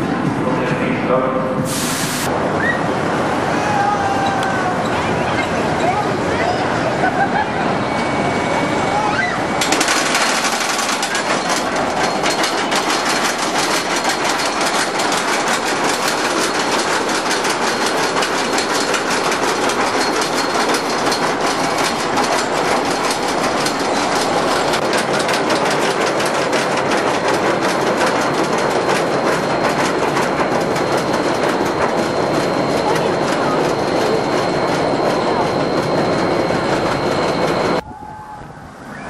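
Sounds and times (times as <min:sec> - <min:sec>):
roller coaster chain clacking: 0:04.2 - 0:37.8.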